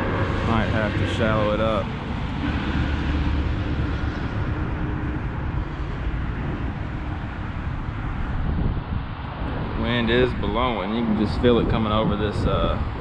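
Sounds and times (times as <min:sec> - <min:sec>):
faint steady hum: 0:00.0 - 0:13.0
wind buffeting microphone: 0:00.0 - 0:13.0.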